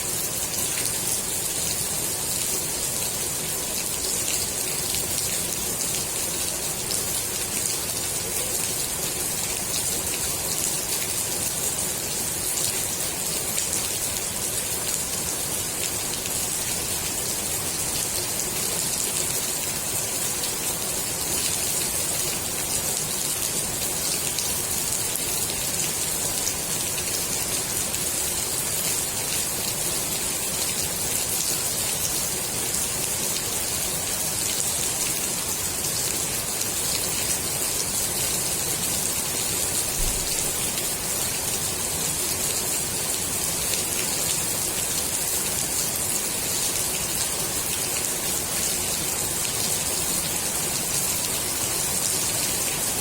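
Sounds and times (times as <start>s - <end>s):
rain falling on pool water: 0.0s - 53.0s.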